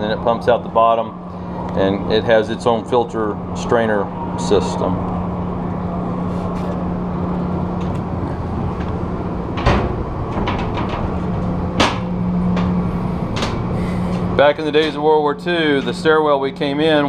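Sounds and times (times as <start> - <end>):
engine-room machinery hum: 0.0 - 17.0.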